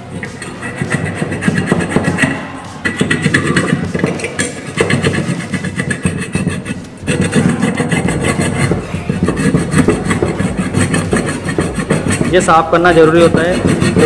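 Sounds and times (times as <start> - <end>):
abrasive bar rasping on metal: 0.0 - 14.0.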